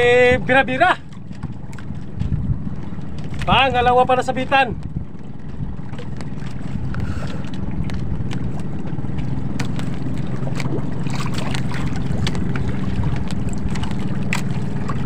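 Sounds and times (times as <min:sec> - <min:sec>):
small boat engine droning: 0:00.0 - 0:15.0
wind on microphone: 0:00.0 - 0:15.0.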